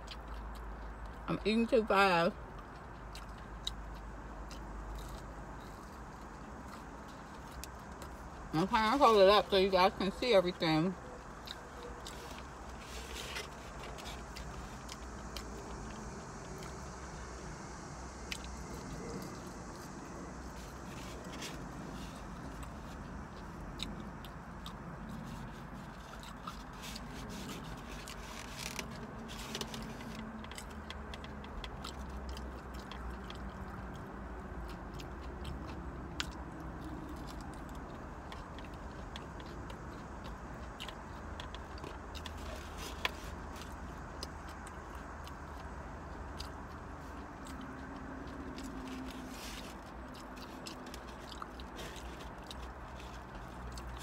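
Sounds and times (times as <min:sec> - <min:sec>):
chewing: 0:00.0 - 0:54.0
low hum in car cabin: 0:00.0 - 0:54.0.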